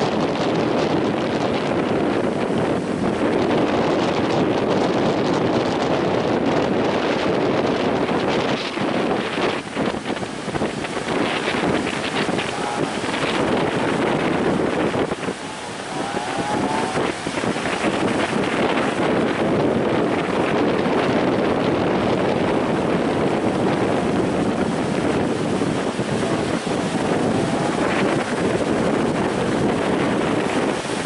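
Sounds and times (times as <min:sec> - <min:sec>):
breaking surf: 0:00.0 - 0:31.0
wind buffeting microphone: 0:00.0 - 0:31.0.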